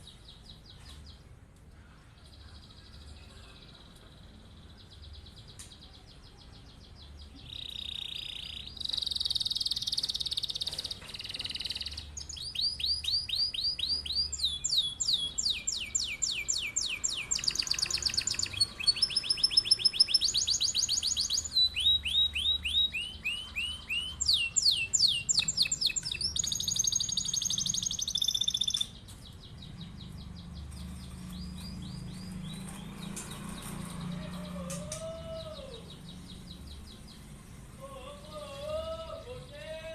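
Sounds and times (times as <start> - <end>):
canary singing trills: 2.2 - 39.9.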